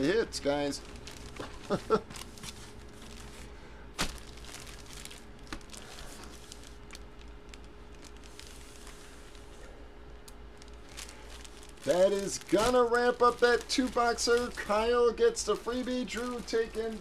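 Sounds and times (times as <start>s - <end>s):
plastic bag crinkling: 0.0s - 9.7s, 10.4s - 17.0s
faint hum: 0.0s - 17.0s.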